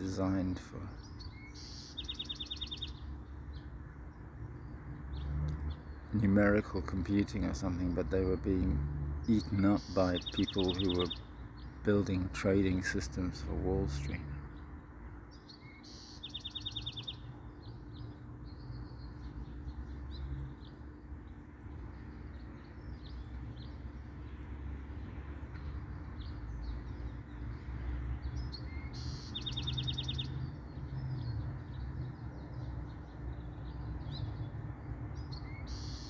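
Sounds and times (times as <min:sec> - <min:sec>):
bird trill: 0:00.0 - 0:03.8, 0:04.6 - 0:14.7, 0:15.3 - 0:23.9, 0:28.2 - 0:34.5, 0:35.1 - 0:36.0
songbirds chirping: 0:00.0 - 0:36.0.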